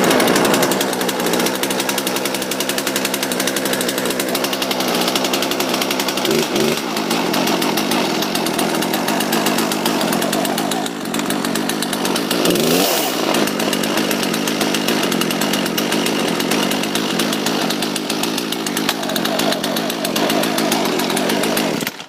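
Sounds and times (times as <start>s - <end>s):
chainsaw running and revving: 0.0s - 22.0s.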